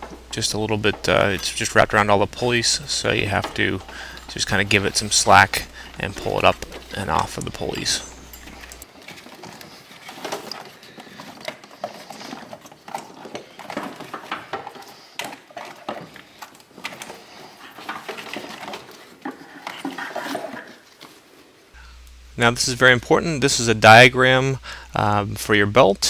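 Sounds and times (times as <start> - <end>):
rubber belt rustling and scraping: 0.0 - 21.8.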